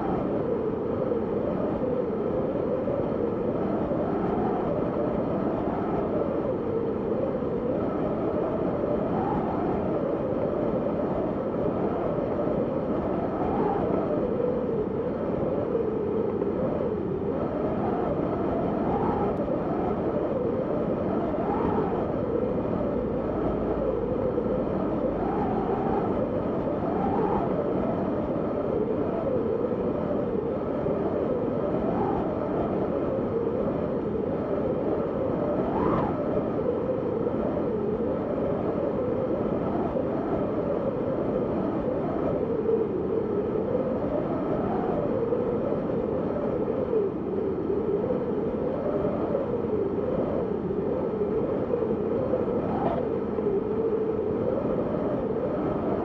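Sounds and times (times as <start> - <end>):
snowstorm wind blowing hard: 0.0 - 56.0.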